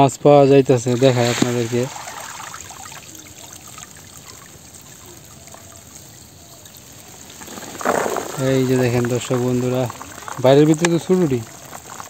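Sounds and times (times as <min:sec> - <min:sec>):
water trickling and dripping: 0:00.6 - 0:12.0
small splashes: 0:00.8 - 0:12.0.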